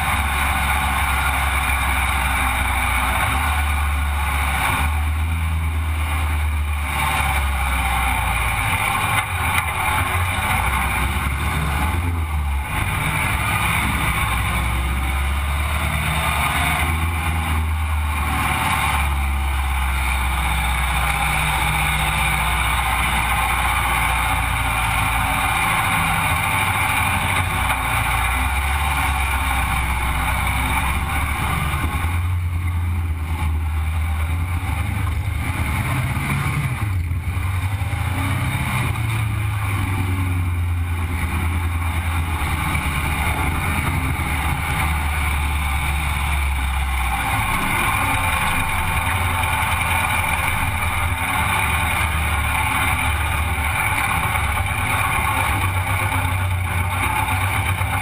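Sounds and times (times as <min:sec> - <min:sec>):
steady rush of noise: 0:00.0 - 0:58.0
vehicle engine running: 0:00.0 - 0:58.0.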